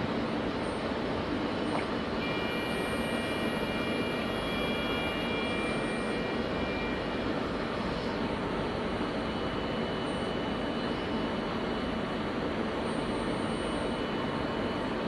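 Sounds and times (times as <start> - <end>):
thin high whine: 1.7 - 15.0.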